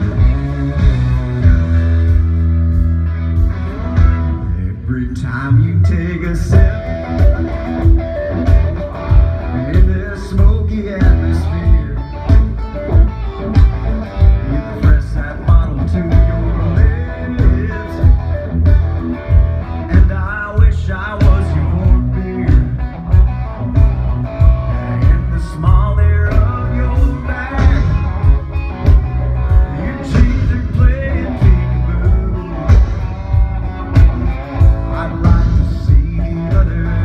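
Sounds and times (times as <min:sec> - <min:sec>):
steady drumbeat: 0:00.0 - 0:04.4, 0:06.5 - 0:37.0
bass: 0:00.0 - 0:37.0
electric guitar: 0:00.0 - 0:37.0
live country band: 0:00.0 - 0:37.0.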